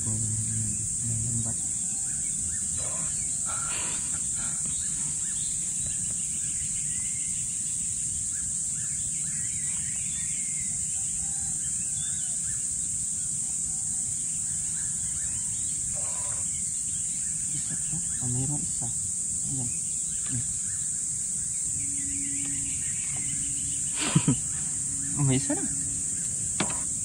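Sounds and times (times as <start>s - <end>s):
faint bird chirps: 0.0s - 27.0s
high-pitched insect chorus: 0.0s - 27.0s.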